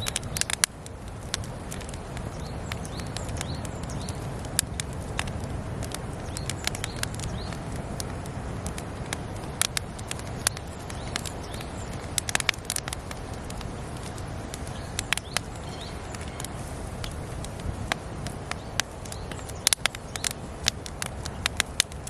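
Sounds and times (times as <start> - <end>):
birds chirping: 0.0 - 22.0
campfire crackling: 0.0 - 22.0
sharp fire pops: 0.0 - 22.0.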